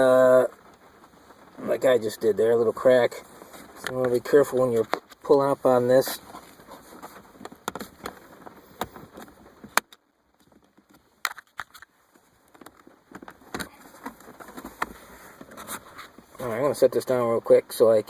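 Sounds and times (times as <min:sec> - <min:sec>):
plastic rubbing noises: 0:00.0 - 0:17.8.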